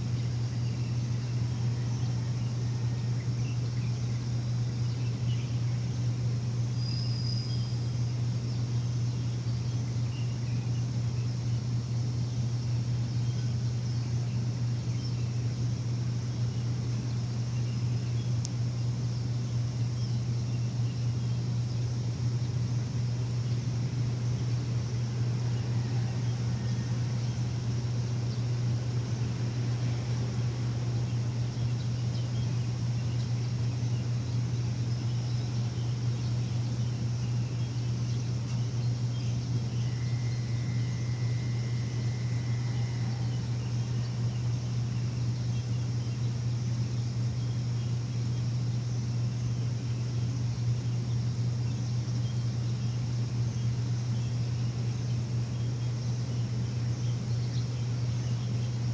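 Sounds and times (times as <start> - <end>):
bird chirps: 0.0 - 58.9
machine humming: 0.0 - 58.9.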